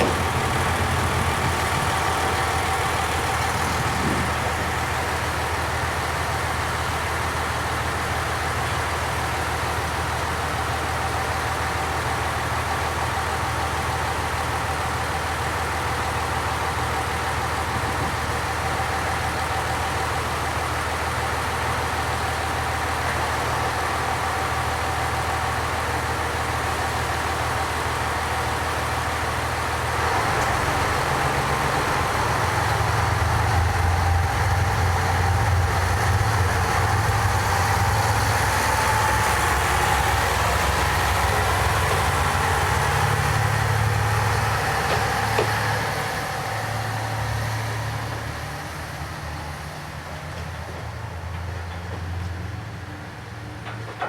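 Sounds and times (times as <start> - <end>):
diesel train engine idling: 0.0 - 54.0.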